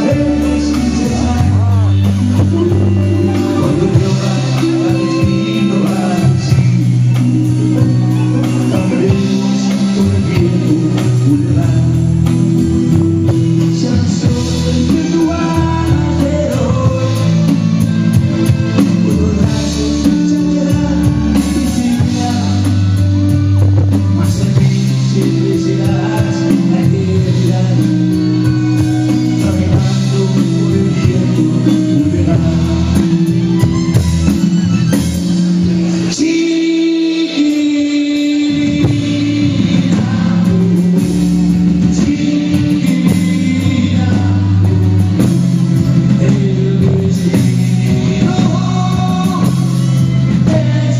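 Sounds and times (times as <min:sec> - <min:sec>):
man singing into microphone: 0:00.0 - 0:33.8, 0:35.7 - 0:50.9
bass line: 0:00.0 - 0:50.9
guitar: 0:00.0 - 0:50.9
live band playing pop: 0:00.0 - 0:50.9.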